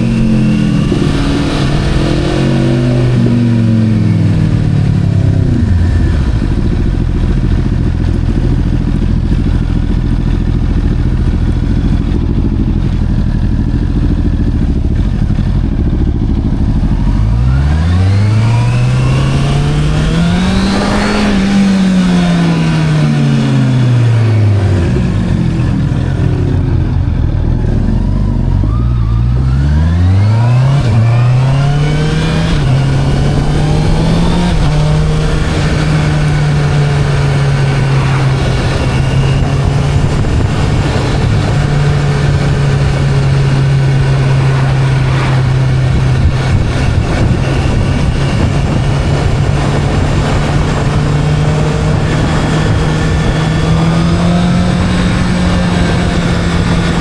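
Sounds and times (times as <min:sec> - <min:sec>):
motorcycle engine accelerating: 0:00.0 - 0:57.0
rush of noise: 0:00.0 - 0:57.0.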